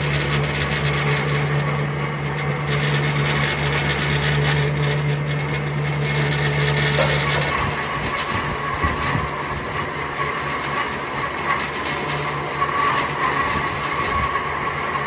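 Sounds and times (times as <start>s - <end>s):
power tool grinding wood: 0.0s - 15.0s.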